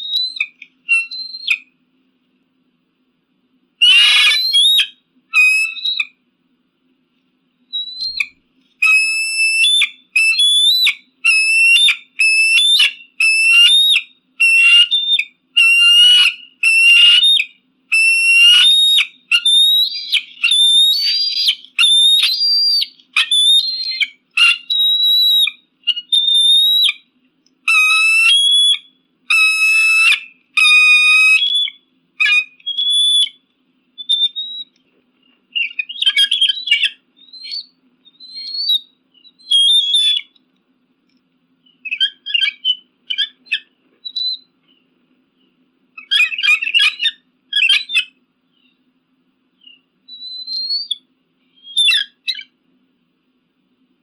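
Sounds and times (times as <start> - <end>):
eagle calling: 0.0 - 1.7, 3.8 - 6.2, 7.8 - 33.4, 34.0 - 34.8, 35.5 - 40.4, 41.7 - 44.5, 46.0 - 48.8, 49.6 - 52.6.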